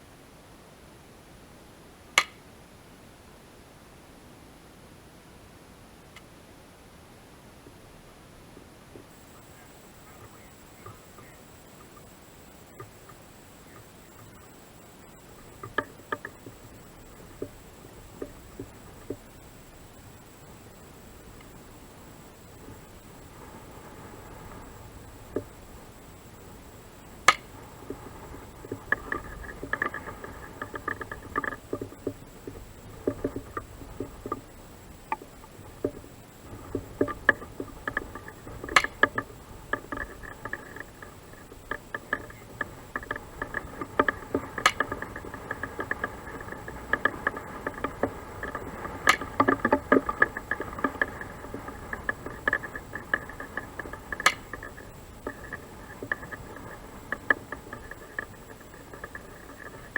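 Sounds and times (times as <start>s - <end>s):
crackle of small clicks: 2.2s - 2.4s, 8.9s - 59.9s.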